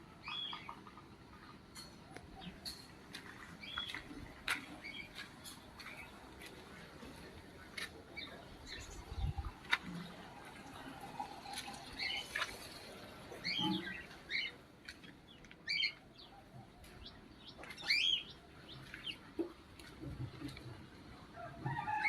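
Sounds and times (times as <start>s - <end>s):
small birds chirping: 0.2s - 7.3s, 8.0s - 20.8s.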